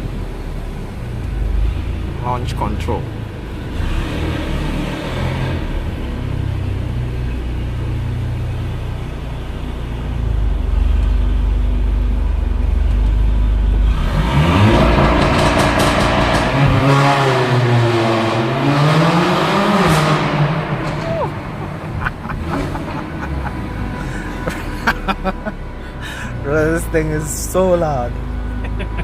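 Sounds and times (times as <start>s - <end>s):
car engine rumbling and accelerating: 0.0s - 29.0s.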